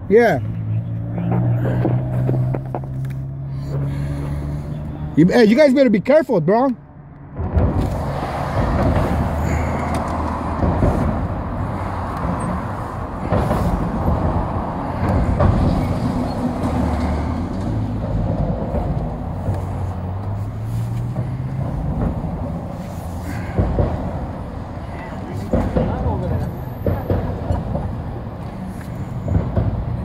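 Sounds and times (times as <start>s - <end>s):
city street traffic: 0.0s - 30.0s
vehicle engine running close by: 0.3s - 5.5s, 6.8s - 30.0s.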